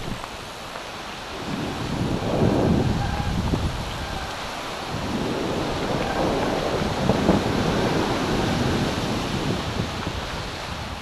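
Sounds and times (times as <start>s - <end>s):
bike rattling over dirt trail: 0.0s - 11.0s
wind buffeting microphone: 0.0s - 11.0s.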